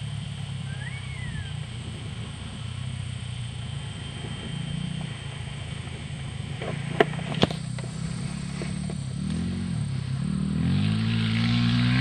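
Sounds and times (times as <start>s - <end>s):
trail bike engine running: 0.0s - 12.0s.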